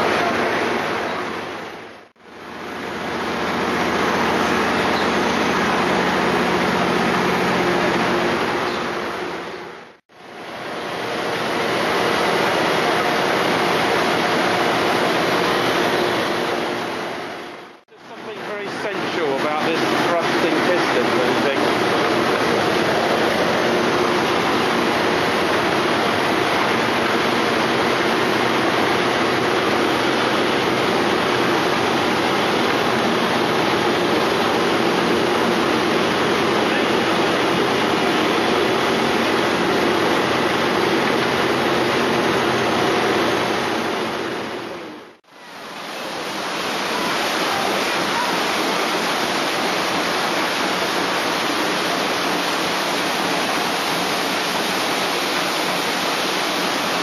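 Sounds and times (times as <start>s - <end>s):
engine room running: 0.0s - 57.0s
paddle wheel churning water: 0.0s - 57.0s.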